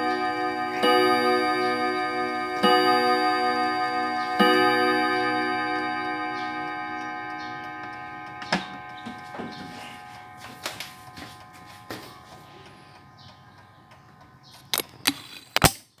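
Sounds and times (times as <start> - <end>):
clock gong rods ringing: 0.0 - 14.5
clock ticking: 0.0 - 15.1.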